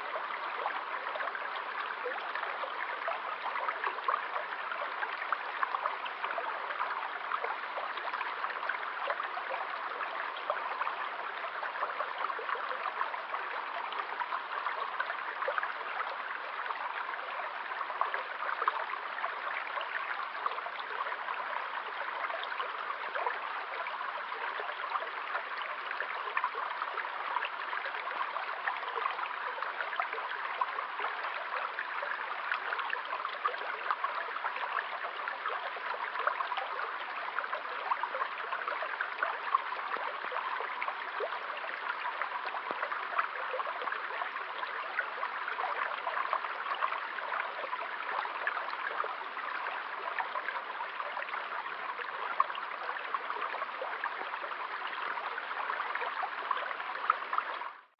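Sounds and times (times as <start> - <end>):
stream flowing with small splashes: 0.0 - 57.9.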